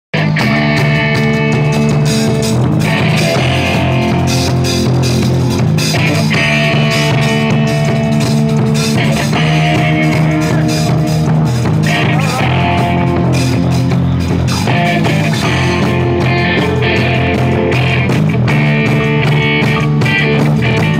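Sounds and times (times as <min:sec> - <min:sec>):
drum kit: 0:00.1 - 0:20.9
electric guitar: 0:00.1 - 0:20.9.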